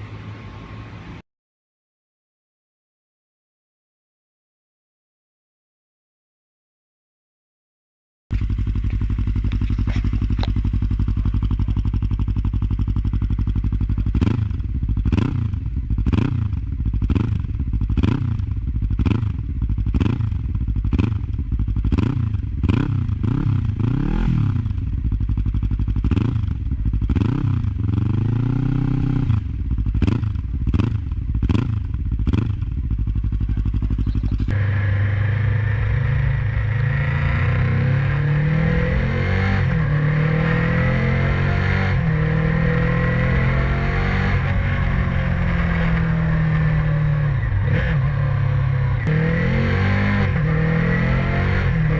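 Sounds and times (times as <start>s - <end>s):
motorcycle engine revving: 8.3s - 51.9s.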